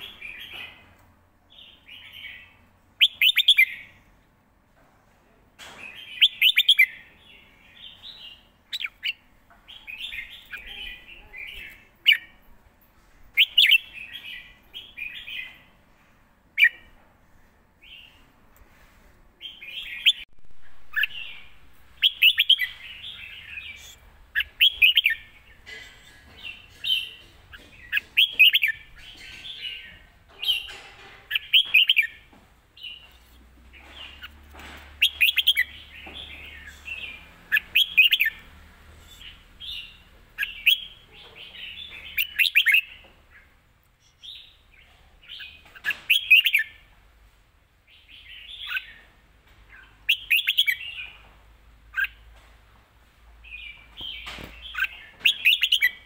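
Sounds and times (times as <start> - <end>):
bird chirping song: 0.0 - 4.2, 5.8 - 12.5, 13.3 - 15.8, 19.4 - 47.0, 47.8 - 52.3, 53.3 - 56.0.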